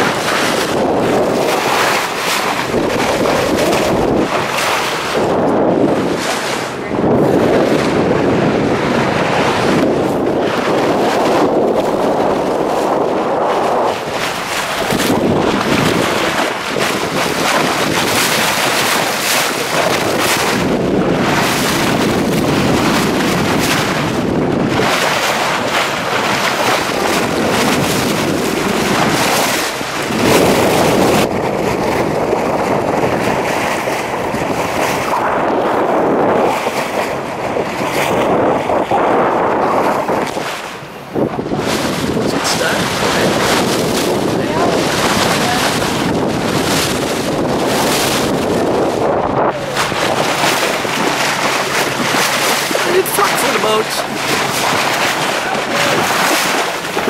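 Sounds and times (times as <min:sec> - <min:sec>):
water rushing along boat hull: 0:00.0 - 0:57.0
wind buffeting microphone: 0:00.0 - 0:57.0.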